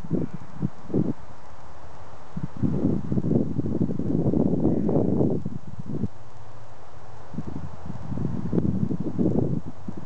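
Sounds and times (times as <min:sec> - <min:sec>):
wind buffeting microphone: 0:00.0 - 0:01.3, 0:02.2 - 0:10.0.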